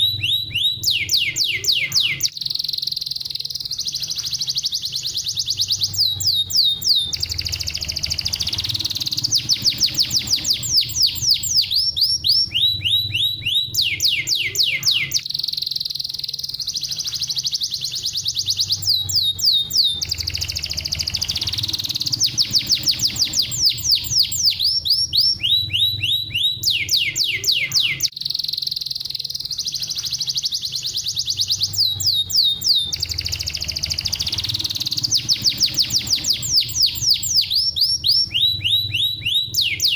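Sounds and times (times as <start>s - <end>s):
canary singing trills: 0.0s - 39.9s
faint low hum: 0.0s - 39.9s.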